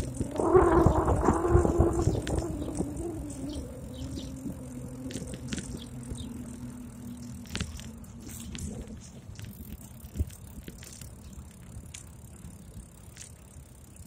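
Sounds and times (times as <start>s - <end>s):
bike rolling over asphalt: 0.0s - 14.0s
steady hum: 0.0s - 14.0s
scattered clicks: 2.0s - 14.0s.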